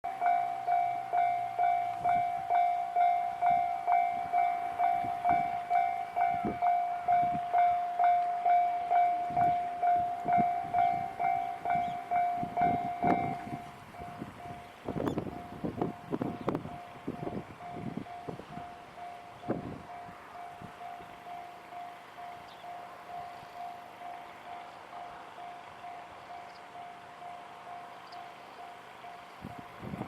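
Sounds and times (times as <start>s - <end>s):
level crossing bell ringing: 0.1s - 29.7s.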